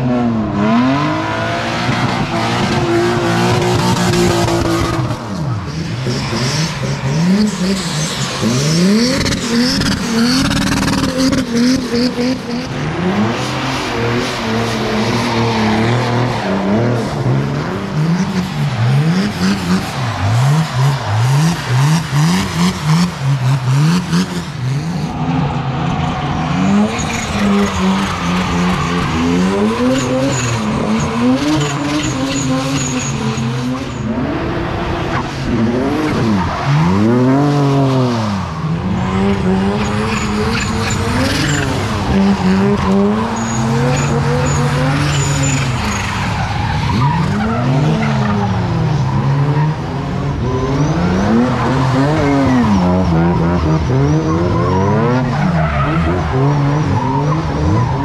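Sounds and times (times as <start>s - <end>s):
car engines revving: 0.0s - 58.0s
tyres skidding and squealing: 0.0s - 58.0s.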